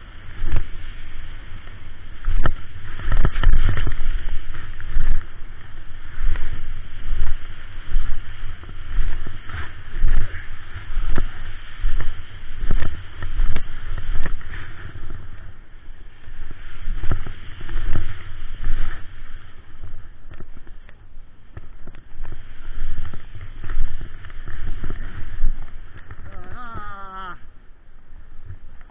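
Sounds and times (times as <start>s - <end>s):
snowboard scraping on snow: 0.0s - 27.5s
wind buffeting microphone: 0.0s - 28.9s.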